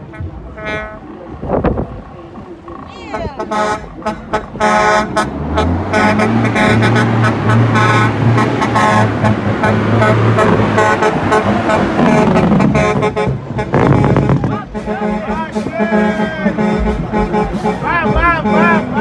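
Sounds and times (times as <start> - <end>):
vehicle horns honking: 0.0 - 1.1, 3.0 - 19.0
truck diesel engine running: 0.0 - 19.0.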